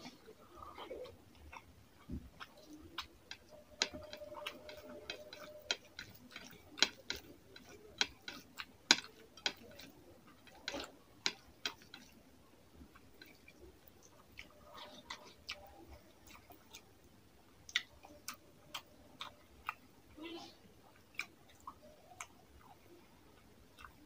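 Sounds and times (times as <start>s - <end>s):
fingers squishing rice: 0.0s - 24.0s
wet chewing sounds: 0.0s - 24.0s.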